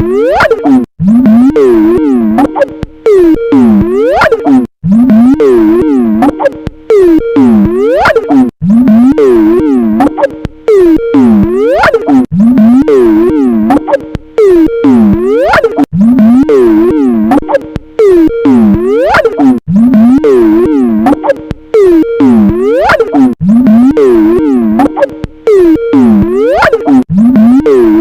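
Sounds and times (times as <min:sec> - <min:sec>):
distorted ringtone looping: 0:00.0 - 0:28.0.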